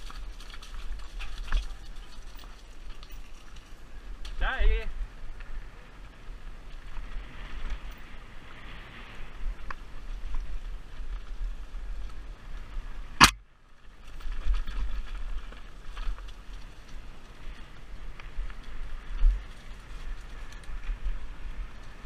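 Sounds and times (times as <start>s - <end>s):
bike rattles and ticks: 0.0s - 22.0s
wind and trail rumble: 0.0s - 22.0s.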